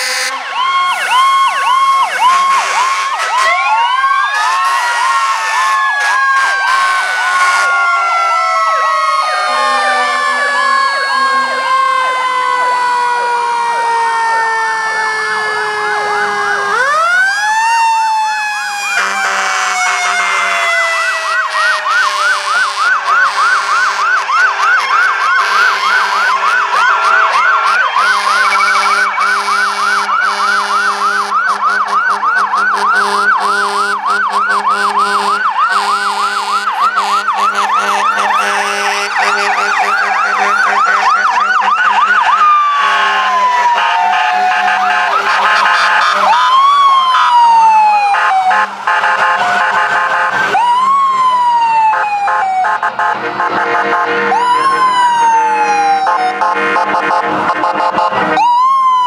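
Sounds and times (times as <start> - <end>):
electronic siren yelping: 0.0 - 59.0
siren wailing: 0.0 - 59.0.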